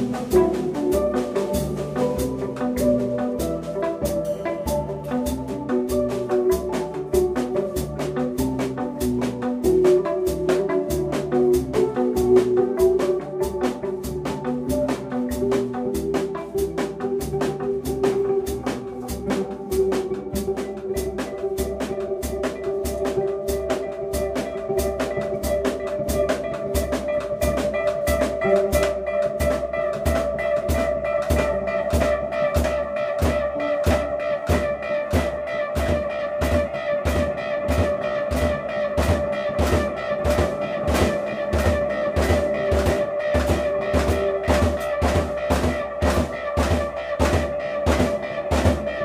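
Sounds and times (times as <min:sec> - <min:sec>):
drum kit beat: 0:00.0 - 0:49.0
guitar: 0:00.0 - 0:49.0.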